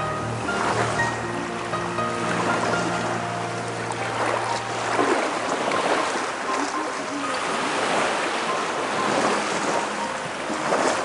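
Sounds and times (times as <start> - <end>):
surf washing against seawall: 0.0 - 11.0.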